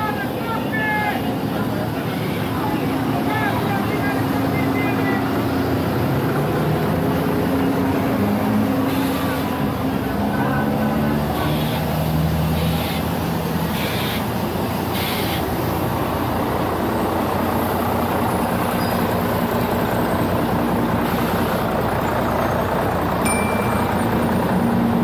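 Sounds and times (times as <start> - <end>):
low engine hum: 0.0 - 25.0
street traffic noise: 0.0 - 25.0.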